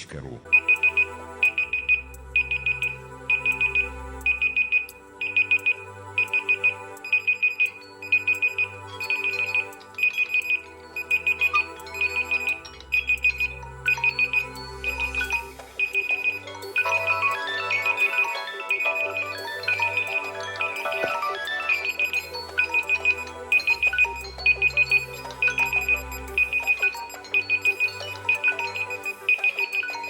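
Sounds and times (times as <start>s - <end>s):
phone alarm ringtone: 0.5s - 30.0s.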